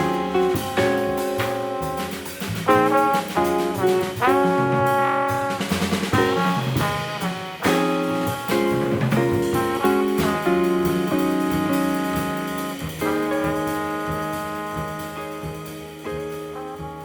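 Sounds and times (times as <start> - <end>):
trombone long held notes: 0.0 - 15.7
bass: 0.0 - 17.0
drum kit with cymbals: 0.0 - 17.0.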